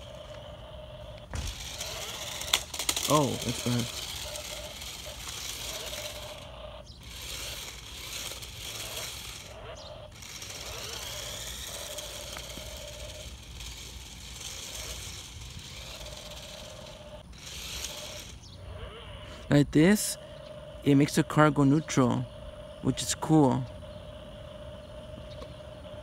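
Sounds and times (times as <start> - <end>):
toy car rattle: 0.0 - 22.2
toy car motor whining: 0.0 - 26.0.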